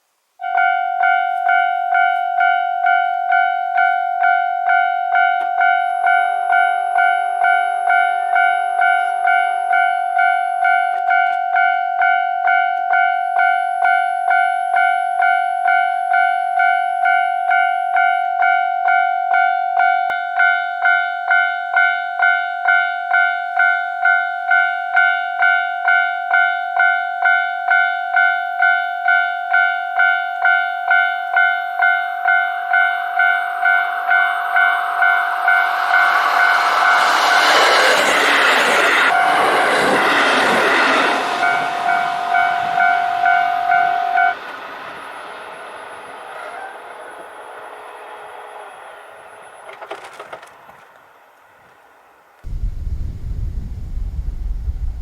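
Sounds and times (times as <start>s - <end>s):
diesel railcar passing: 0.5s - 19.5s, 20.2s - 55.0s.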